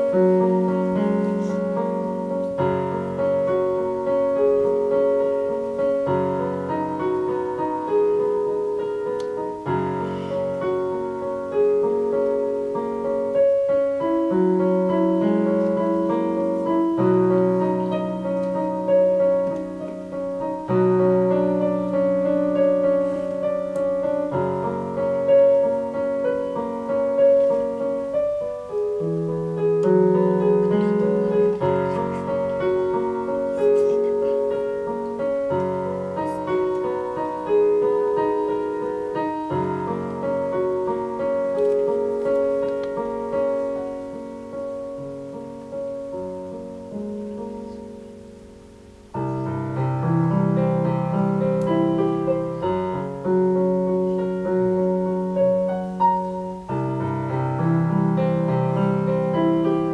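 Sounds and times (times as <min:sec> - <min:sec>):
solo piano piece: 0:00.0 - 0:59.9.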